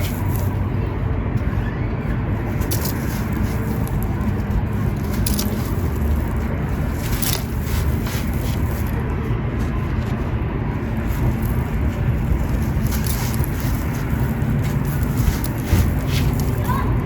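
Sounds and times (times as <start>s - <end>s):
gritty sand crunching: 0.0s - 0.7s, 2.2s - 17.0s.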